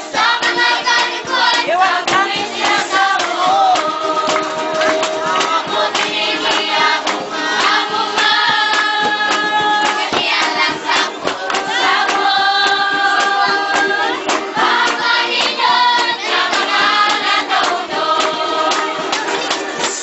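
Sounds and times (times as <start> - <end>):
clicking percussion beat: 0.0 - 20.0
group singing held notes: 0.0 - 20.0.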